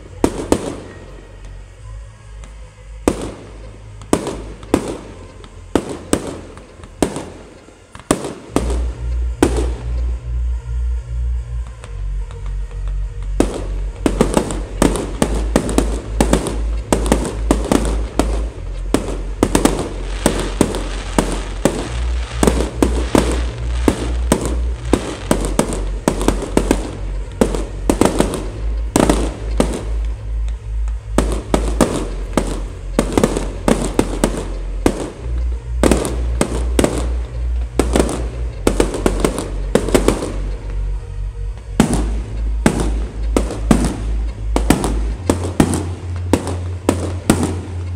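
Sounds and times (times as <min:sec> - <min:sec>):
fireworks bangs and crackling: 0:00.0 - 0:01.8, 0:02.4 - 0:47.9
music with bass beat: 0:00.0 - 0:47.9.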